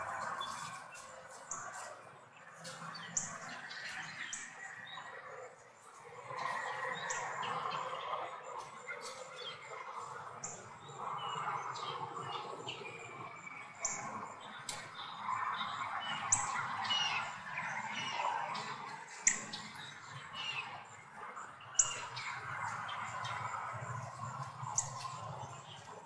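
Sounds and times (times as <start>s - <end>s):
birds chirping softly: 0.0s - 26.0s.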